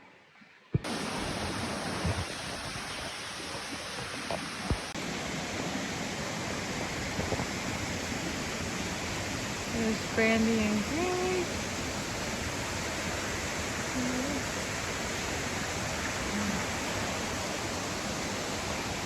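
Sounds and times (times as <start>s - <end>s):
rushing water roar: 0.7s - 19.0s.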